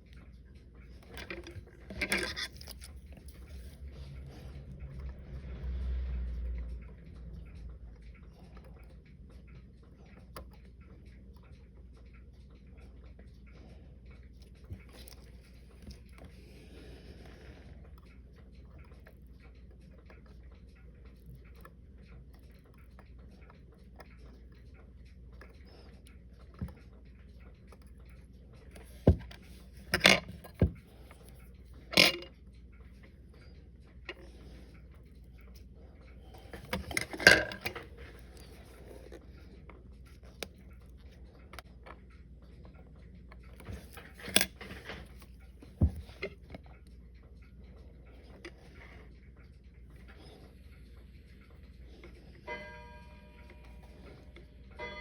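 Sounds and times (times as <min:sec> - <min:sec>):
tools clicking on watch parts: 0:00.0 - 0:52.4.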